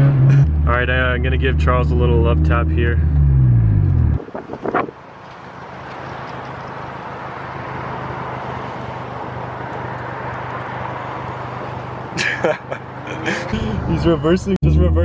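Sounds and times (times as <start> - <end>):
car engine hum: 0.0 - 15.0
road and wind noise: 0.0 - 15.0.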